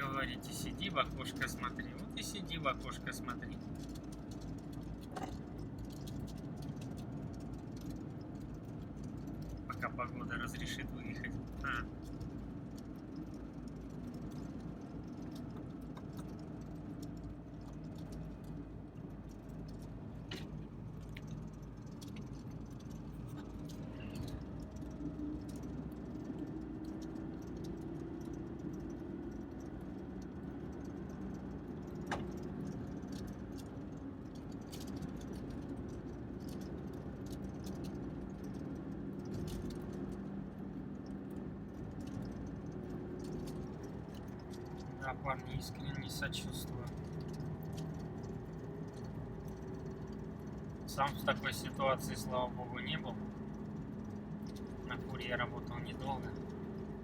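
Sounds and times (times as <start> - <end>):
car engine running inside cabin: 0.0 - 57.0
light rattles: 0.0 - 57.0
small clicks: 1.3 - 57.0.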